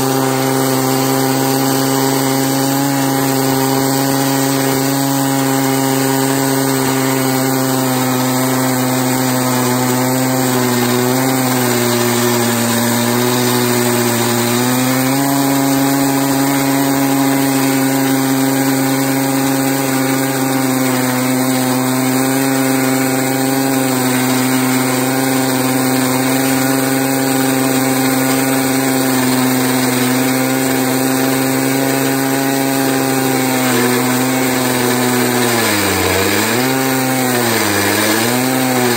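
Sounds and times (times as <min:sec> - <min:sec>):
chainsaw cutting log under load: 0:00.0 - 0:38.9.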